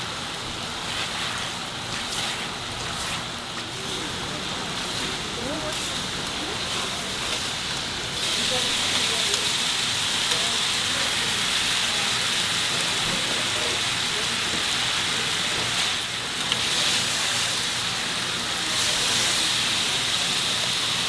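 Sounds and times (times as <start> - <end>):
patties sizzling on a griddle: 0.0 - 21.0.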